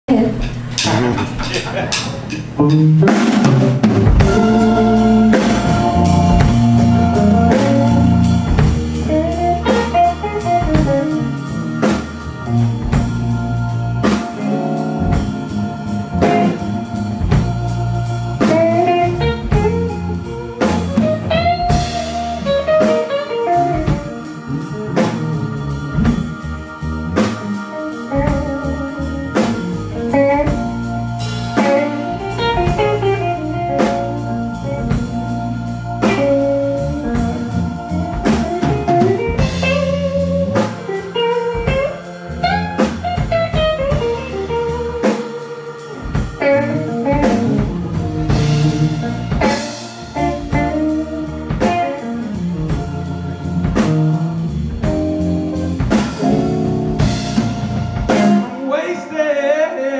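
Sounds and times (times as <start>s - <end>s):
blues band playing: 0.1s - 59.9s
electric guitar lead lines: 0.1s - 59.9s.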